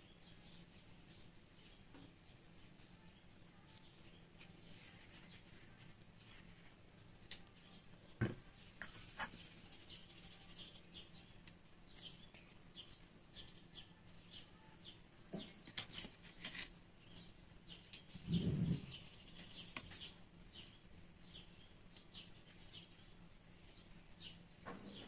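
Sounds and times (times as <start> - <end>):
faint low hum: 0.0 - 25.0
small birds chirping: 0.0 - 25.0.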